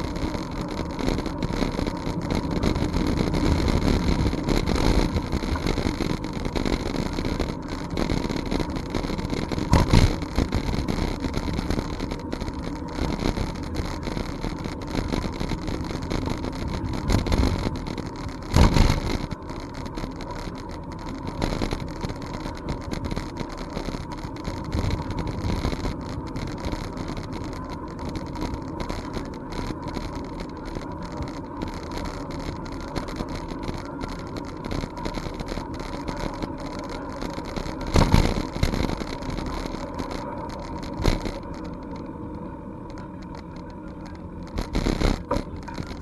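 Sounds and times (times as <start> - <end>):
bicycle tyre and frame noise: 0.0 - 46.0
small rattling clicks: 0.0 - 46.0.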